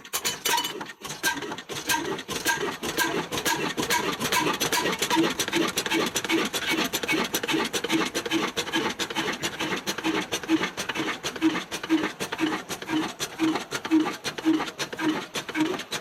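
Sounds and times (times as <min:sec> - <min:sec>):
diesel engine clattering: 0:00.0 - 0:16.0
flour mill grinding: 0:00.0 - 0:16.0.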